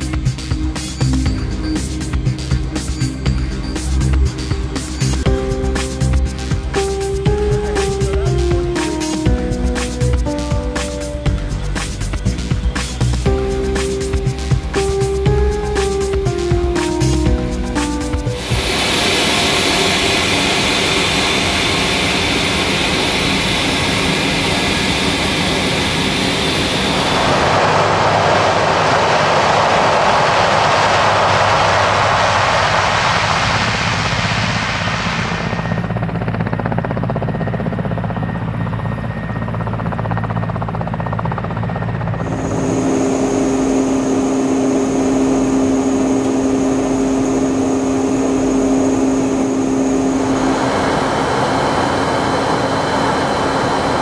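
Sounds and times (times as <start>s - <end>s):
propeller hum: 0.0s - 54.0s
turboprop aircraft engines: 0.0s - 54.0s.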